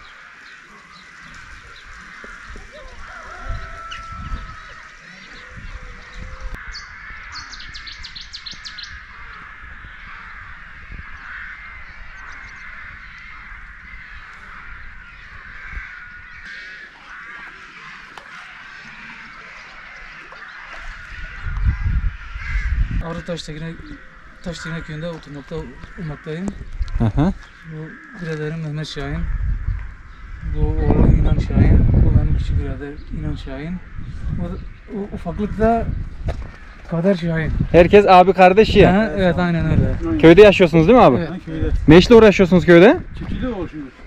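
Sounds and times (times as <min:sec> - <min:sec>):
birds calling and chirping: 0:00.0 - 0:44.0
wind buffeting microphone: 0:01.0 - 0:17.3, 0:18.9 - 0:44.0.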